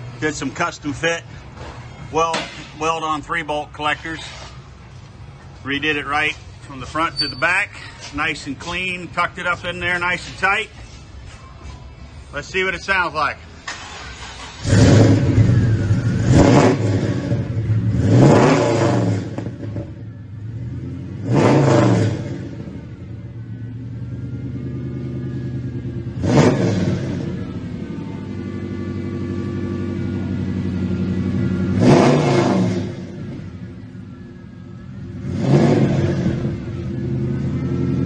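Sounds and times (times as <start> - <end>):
car engine idling and revving: 0.0 - 12.3, 13.4 - 38.0.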